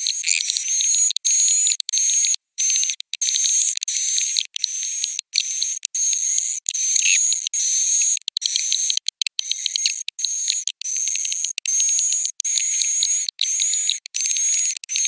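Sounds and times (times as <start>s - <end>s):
rapid clicking twitters: 0.0s - 15.0s.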